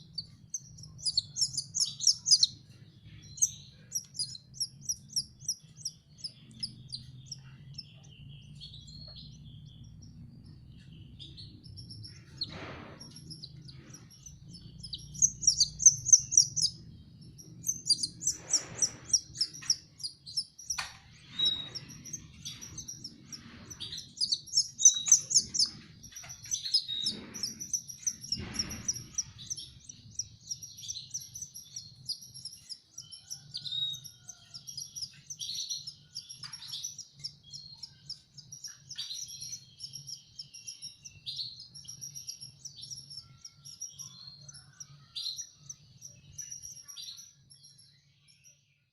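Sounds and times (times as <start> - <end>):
canary chicks cheeping: 0.0 - 48.9.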